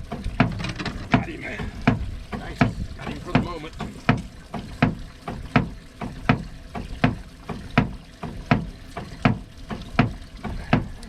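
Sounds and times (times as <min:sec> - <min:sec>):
rhythmic thumping on boat hull: 0:00.0 - 0:11.0.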